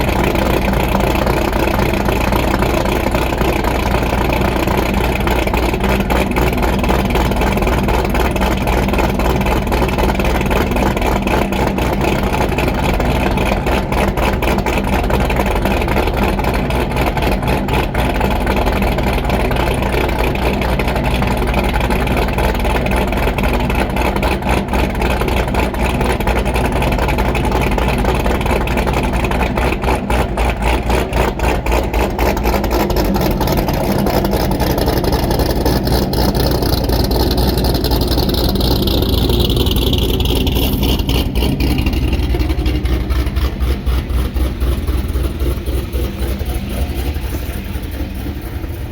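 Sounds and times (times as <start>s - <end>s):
car engine idling with choppy lope: 0.0s - 48.9s.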